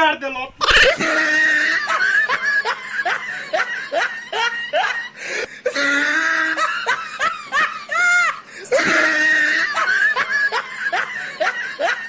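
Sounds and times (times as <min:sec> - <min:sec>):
man laughing: 0:00.6 - 0:12.0.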